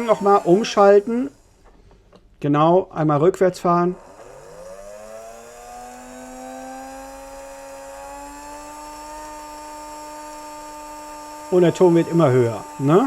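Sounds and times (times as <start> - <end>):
model train motor whirring: 0.0 - 1.8, 3.5 - 13.0.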